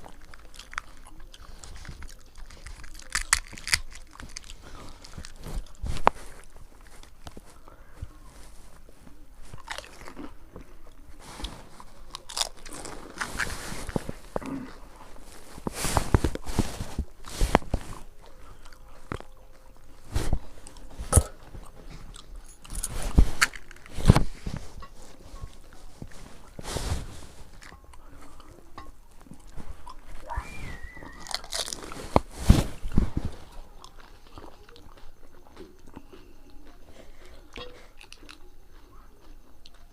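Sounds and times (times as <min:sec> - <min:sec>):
crisp shells crunching: 0:00.0 - 0:07.6, 0:09.6 - 0:35.9
chewing: 0:00.0 - 0:39.9.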